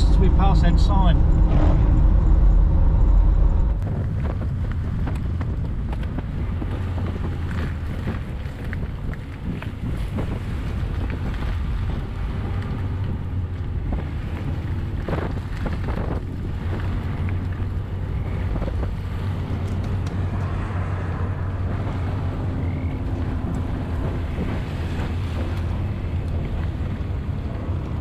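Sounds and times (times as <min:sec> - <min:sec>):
van engine drone: 0:00.0 - 0:28.0
tyre noise on wet road: 0:03.7 - 0:28.0
tyres splashing through puddles: 0:04.1 - 0:28.0.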